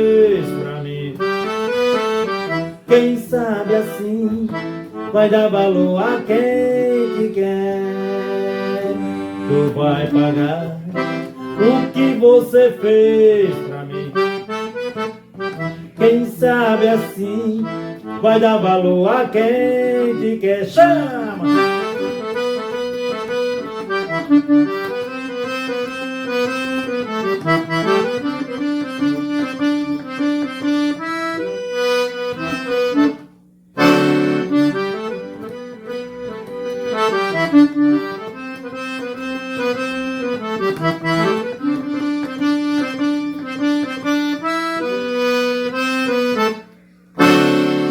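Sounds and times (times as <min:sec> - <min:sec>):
accordion melody: 0:00.0 - 0:47.9.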